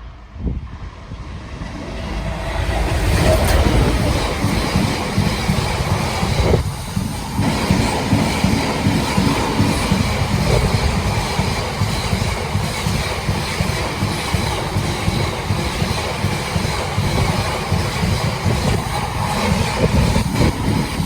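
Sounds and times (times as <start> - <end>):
freight train wheels rolling on rail: 0.0 - 21.0.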